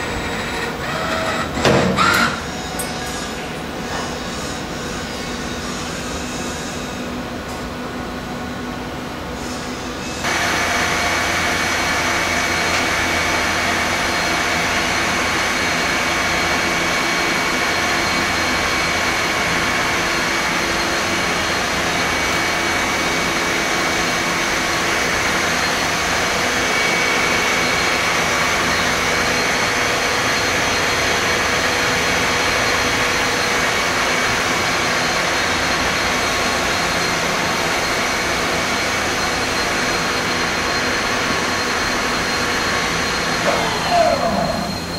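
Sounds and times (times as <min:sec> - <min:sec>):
spring machine whirring and whining: 0:00.0 - 0:44.9.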